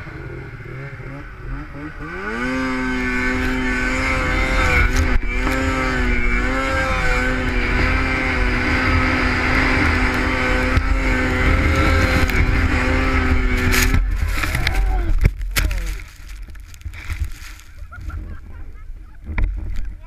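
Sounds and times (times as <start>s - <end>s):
snowmobile engine revving: 0.0s - 18.6s.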